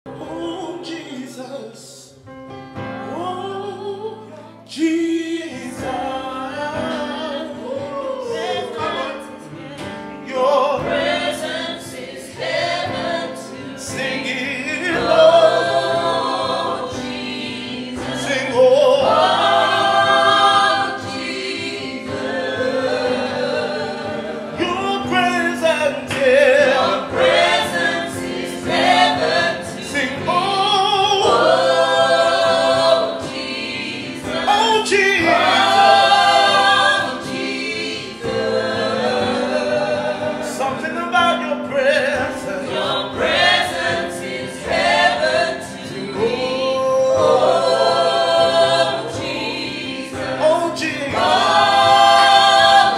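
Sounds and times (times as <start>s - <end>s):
group singing gospel in harmony: 0.1s - 52.9s
electric keyboard chords: 8.4s - 52.9s.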